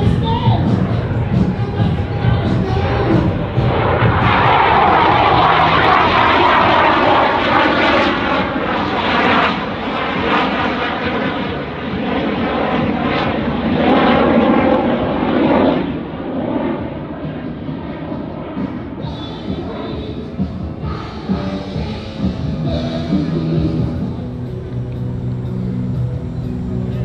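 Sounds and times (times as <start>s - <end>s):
jet engines whooshing past: 0.0s - 27.0s.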